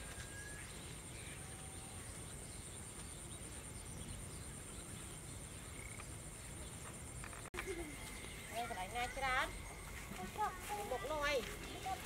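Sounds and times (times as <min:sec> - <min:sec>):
insect drone: 0:00.0 - 0:11.9.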